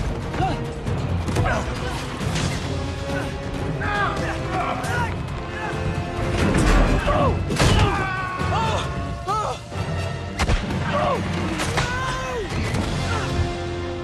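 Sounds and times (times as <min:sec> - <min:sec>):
dramatic music score: 0:00.0 - 0:14.0.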